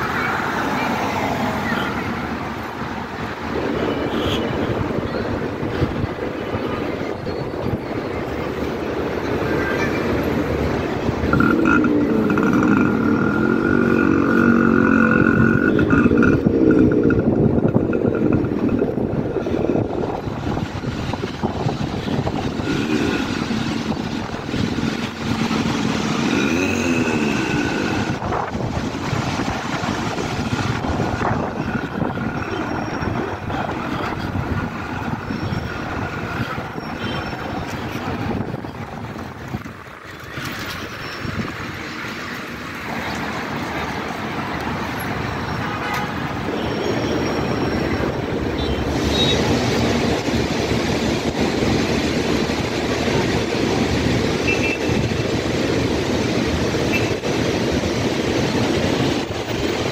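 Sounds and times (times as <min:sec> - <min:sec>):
street noise low rumble: 0:00.0 - 0:59.9
engine hum: 0:07.7 - 0:59.9.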